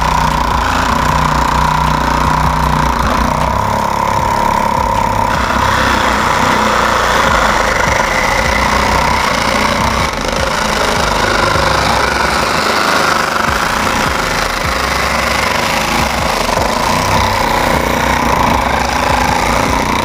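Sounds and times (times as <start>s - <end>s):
scroll saw cutting plastic: 0.0s - 20.0s.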